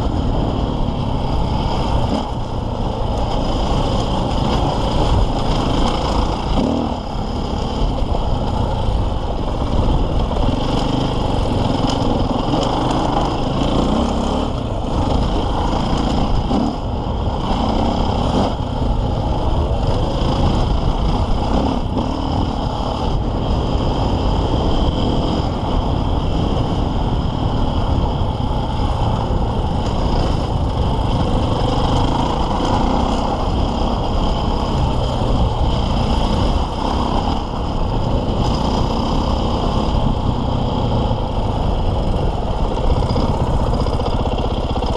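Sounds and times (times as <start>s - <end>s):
motorcycle engine revving under load: 0.0s - 44.9s.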